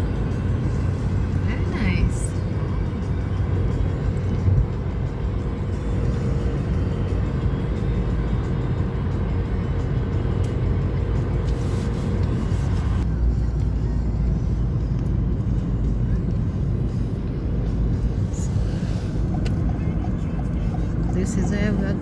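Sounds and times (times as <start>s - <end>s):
road and engine noise inside car: 0.0s - 22.0s.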